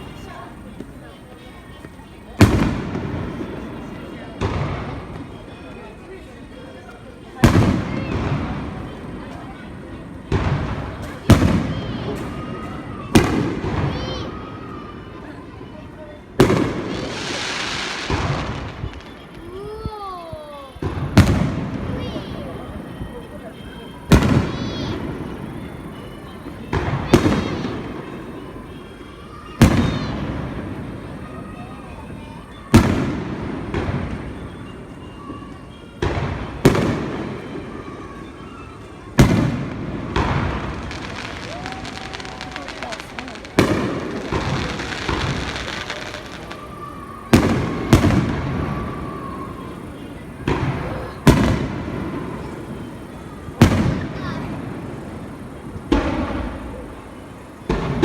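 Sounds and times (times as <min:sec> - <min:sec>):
firework shells booming: 0:00.0 - 0:05.8, 0:07.4 - 0:15.8, 0:16.4 - 0:19.6, 0:20.7 - 0:58.0.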